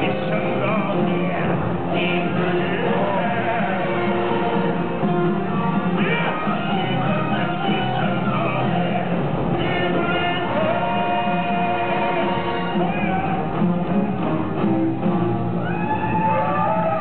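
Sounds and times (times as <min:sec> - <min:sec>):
people singing long notes: 0:00.0 - 0:13.6
live stage music accompaniment: 0:00.0 - 0:17.0.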